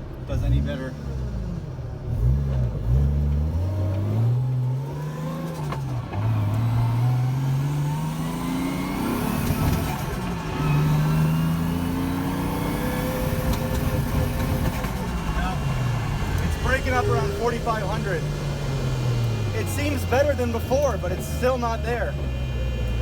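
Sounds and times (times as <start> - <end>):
engine misfiring under load: 3.8 - 23.0.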